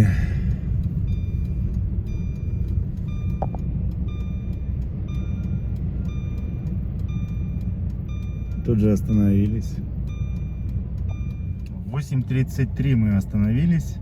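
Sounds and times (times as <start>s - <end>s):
car engine rumble from inside: 0.0s - 14.0s.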